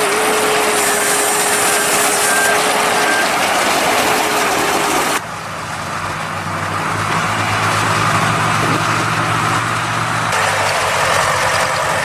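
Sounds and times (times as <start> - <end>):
baler machinery noise: 0.0 - 12.0
tractor engine hum: 0.0 - 12.0.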